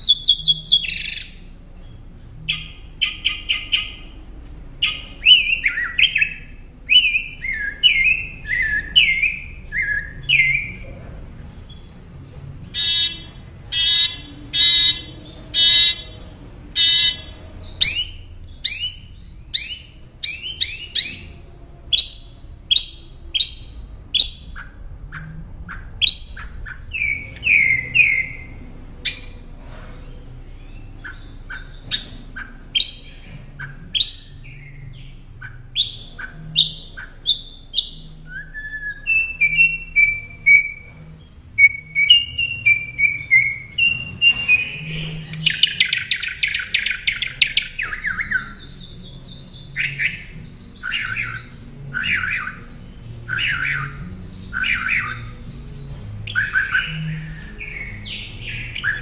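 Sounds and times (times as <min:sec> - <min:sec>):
mockingbird singing: 0:00.0 - 0:59.0.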